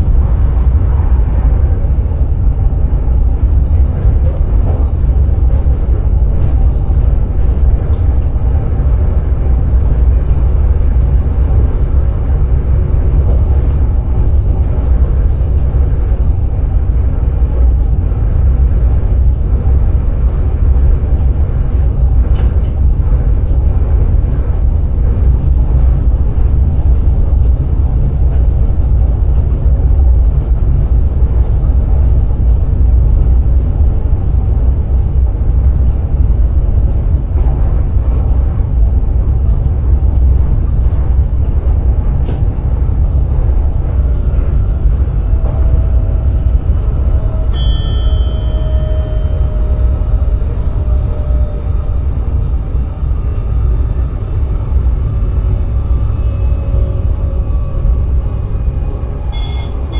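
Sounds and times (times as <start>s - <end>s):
train cab low rumble: 0.0s - 59.9s.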